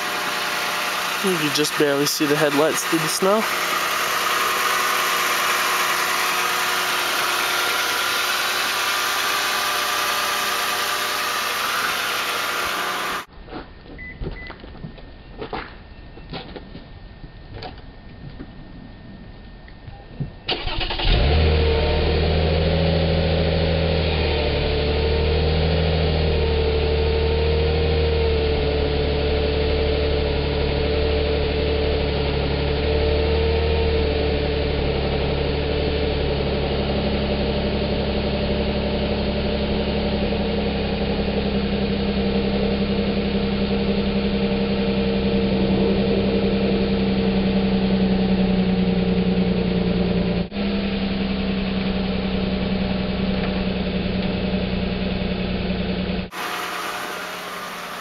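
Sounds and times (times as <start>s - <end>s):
car engine cranking and idling: 0.0s - 13.3s, 20.5s - 58.0s.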